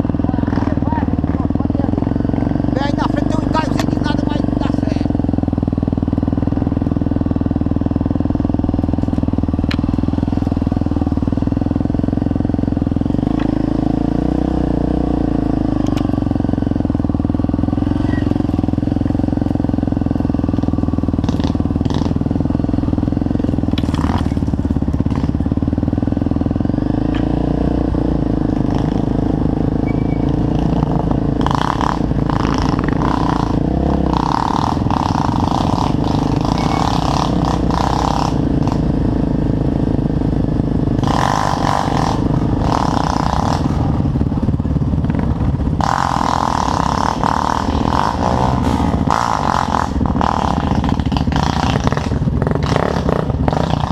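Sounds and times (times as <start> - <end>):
motorcycle engine droning: 0.0 - 53.9.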